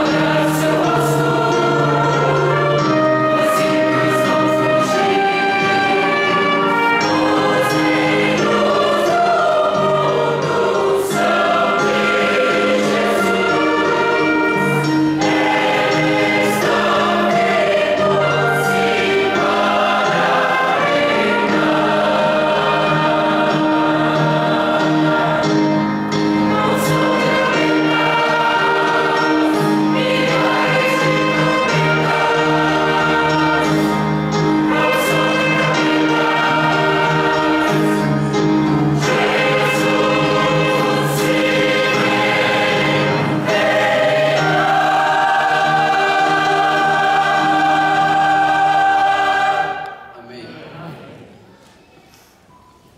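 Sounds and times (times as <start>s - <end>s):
choir singing a hymn: 0.0s - 51.4s.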